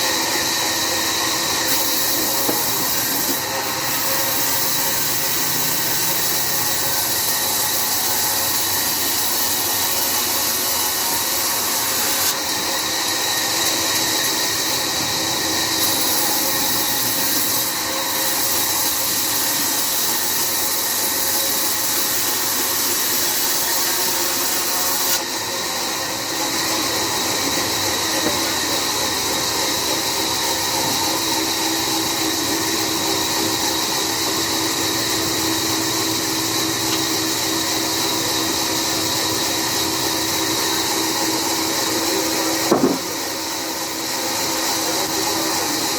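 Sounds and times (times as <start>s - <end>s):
band saw cutting log: 0.0s - 45.9s.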